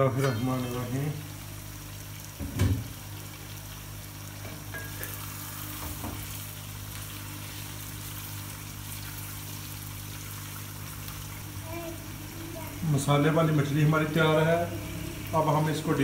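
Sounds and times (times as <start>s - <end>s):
curry sizzling: 0.0s - 16.0s.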